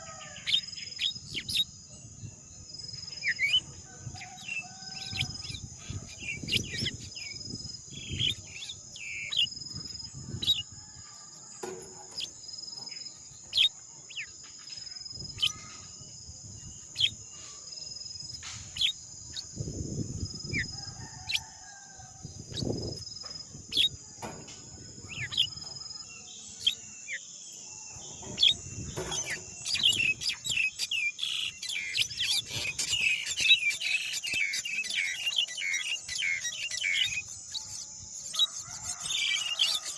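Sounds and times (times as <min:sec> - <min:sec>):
birds chirping: 0:00.0 - 0:39.9
high insect drone: 0:02.8 - 0:39.9.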